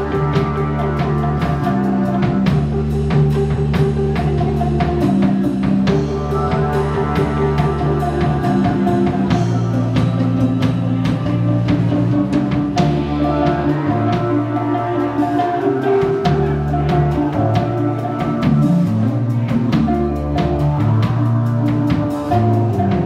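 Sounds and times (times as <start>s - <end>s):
drum and cymbal hits: 0.0s - 23.0s
electric bass: 0.0s - 23.0s
electric guitar: 0.0s - 23.0s.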